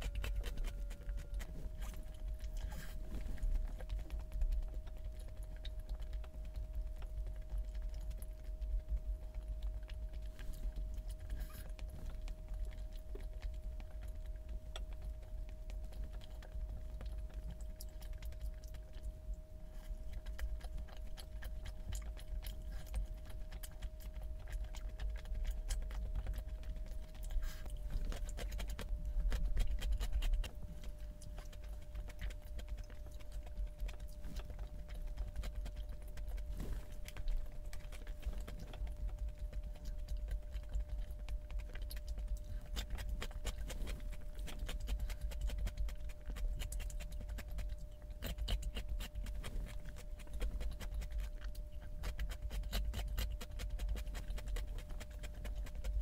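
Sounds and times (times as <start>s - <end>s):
chewing smacks: 0.0s - 56.0s
faint steady hum: 0.0s - 56.0s.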